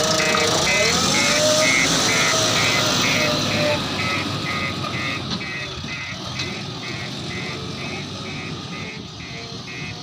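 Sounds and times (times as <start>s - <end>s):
diesel engine running: 0.0s - 10.0s
reversing alarm beeping: 0.0s - 10.0s.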